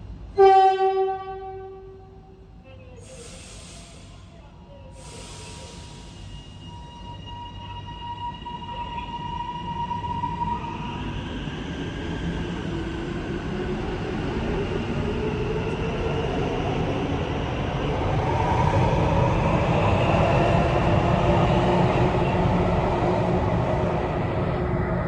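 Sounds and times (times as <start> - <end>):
metro train rumble: 0.0 - 25.0.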